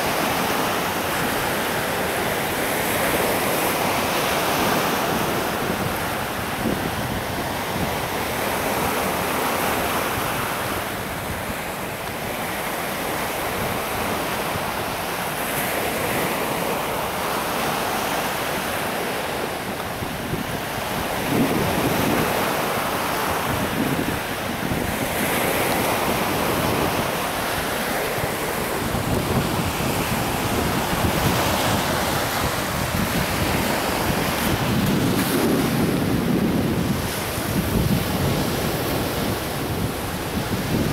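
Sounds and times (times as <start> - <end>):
surf breaking on shore: 0.0 - 40.9
wind buffeting microphone: 0.0 - 40.9.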